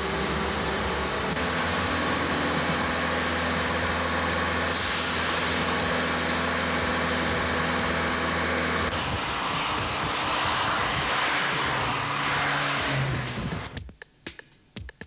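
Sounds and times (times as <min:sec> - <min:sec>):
motorway traffic road noise: 0:00.0 - 0:13.8.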